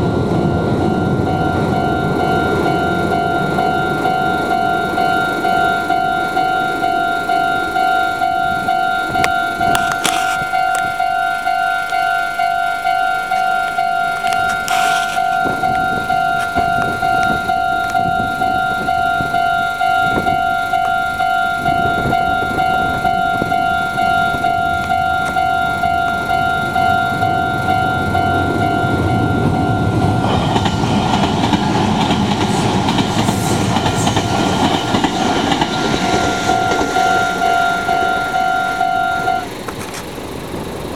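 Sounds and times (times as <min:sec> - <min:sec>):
level crossing bell: 0:00.0 - 0:31.6, 0:33.8 - 0:39.6
train passing: 0:00.0 - 0:40.9.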